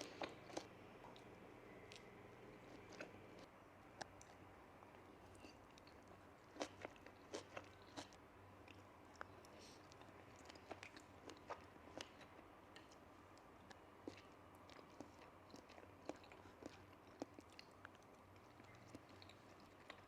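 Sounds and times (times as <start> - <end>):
close-miked chewing: 0.0 - 20.0.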